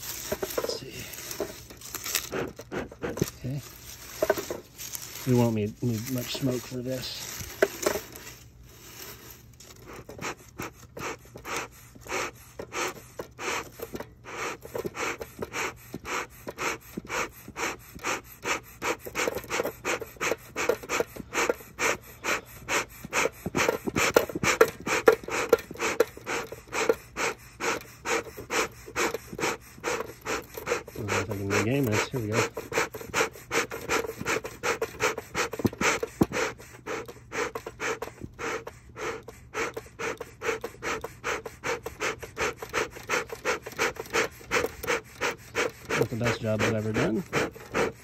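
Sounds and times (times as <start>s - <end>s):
bellows puffing air: 0.0s - 48.0s.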